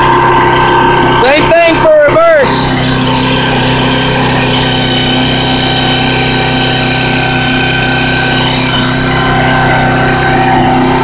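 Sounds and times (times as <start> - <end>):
hydraulic machine humming and whining: 0.0 - 11.0.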